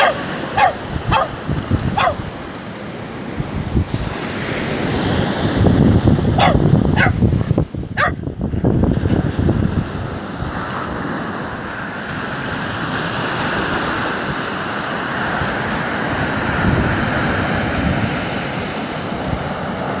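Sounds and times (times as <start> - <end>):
small waves breaking on beach: 0.0 - 20.0
wind buffeting microphone: 0.0 - 20.0.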